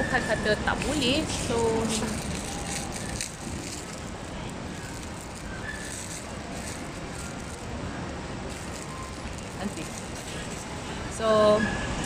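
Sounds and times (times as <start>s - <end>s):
busy public space hubbub: 0.0s - 12.0s.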